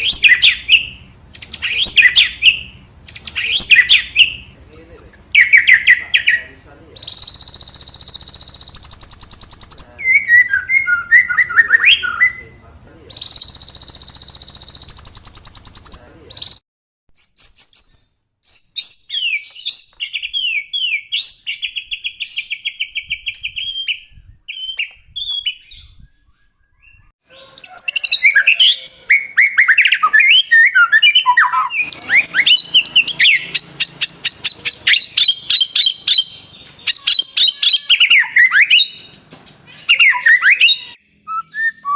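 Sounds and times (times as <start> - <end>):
bird singing varied song: 0.0 - 16.6, 17.2 - 41.9.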